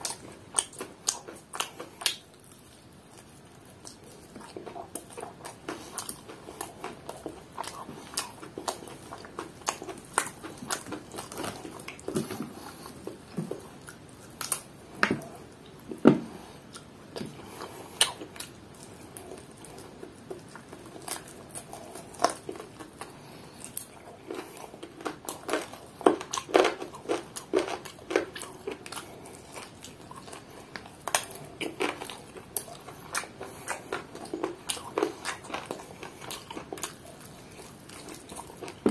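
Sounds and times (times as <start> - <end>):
man chewing and smacking: 0.0 - 38.9.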